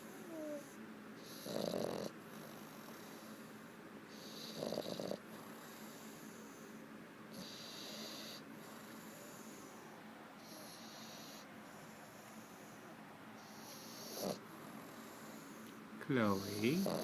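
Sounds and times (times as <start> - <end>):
baby snoring softly: 0.0 - 17.0.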